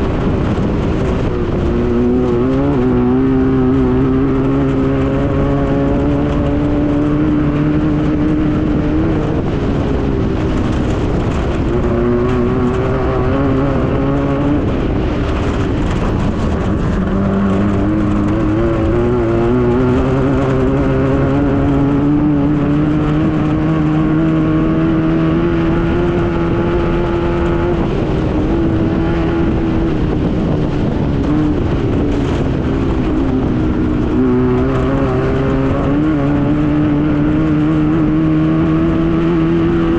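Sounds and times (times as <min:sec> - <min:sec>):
buggy engine running hard: 0:00.0 - 0:39.9.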